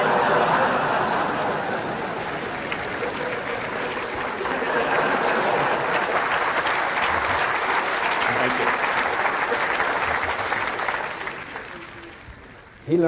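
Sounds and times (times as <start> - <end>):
audience laughing: 0.0 - 11.8
audience applauding: 0.0 - 13.0.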